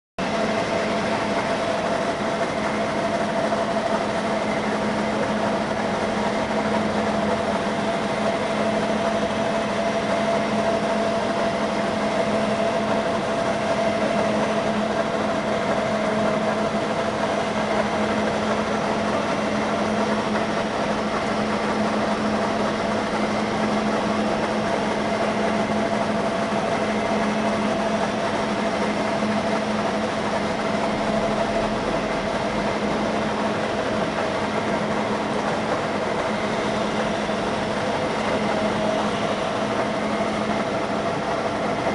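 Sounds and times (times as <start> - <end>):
lathe humming with steady whine: 0.2 - 41.9.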